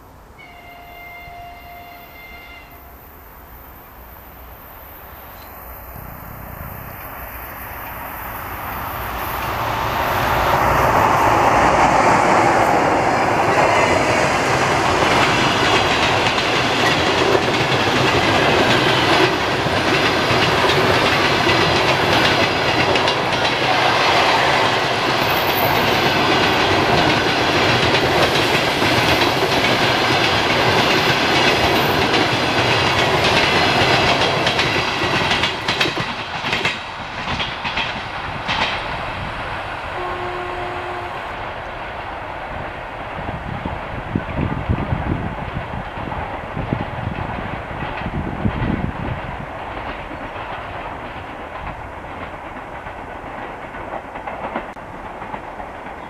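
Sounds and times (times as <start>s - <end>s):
electric locomotive passing: 0.0s - 56.0s
train wheels rolling on rails: 1.2s - 56.0s.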